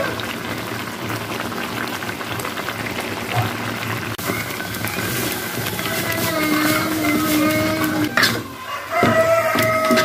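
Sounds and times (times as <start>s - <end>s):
spice paste bubbling in pan: 0.0s - 10.0s.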